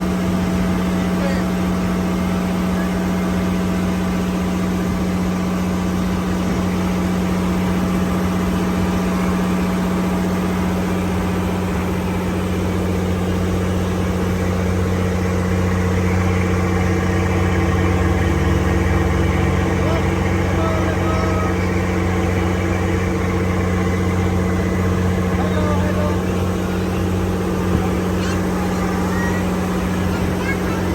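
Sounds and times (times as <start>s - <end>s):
boat engine humming: 0.0s - 30.9s.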